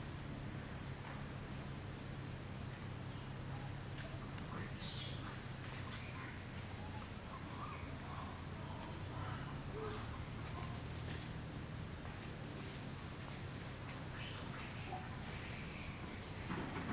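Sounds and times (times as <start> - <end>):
insects droning: 0.0 - 16.9.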